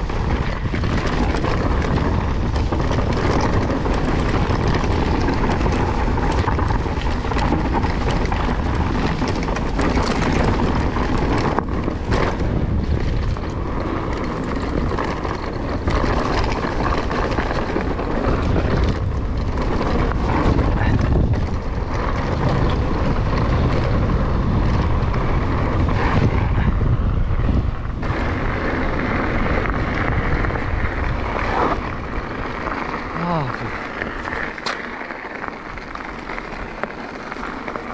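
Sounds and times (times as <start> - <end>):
wind buffeting microphone: 0.0 - 34.8
bike knocks and rattles: 0.0 - 37.9
tyres rolling on gravel: 0.0 - 37.9.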